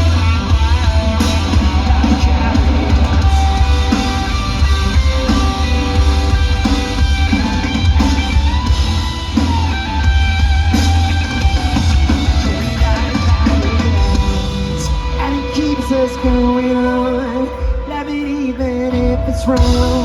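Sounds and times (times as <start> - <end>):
drum kit: 0.0 - 18.4, 19.0 - 20.0
electric guitar: 0.0 - 20.0
rock band playing live: 0.0 - 20.0.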